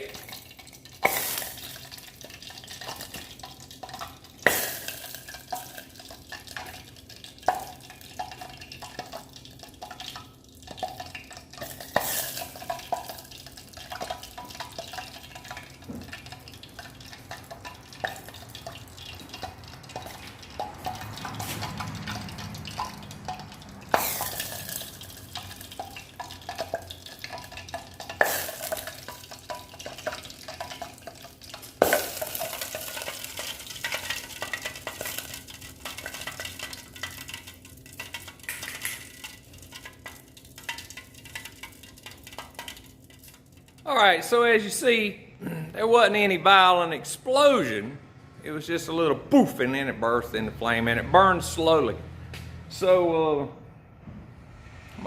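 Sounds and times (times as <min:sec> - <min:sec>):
burning fuel sizzling and crackling: 0:00.0 - 0:45.1.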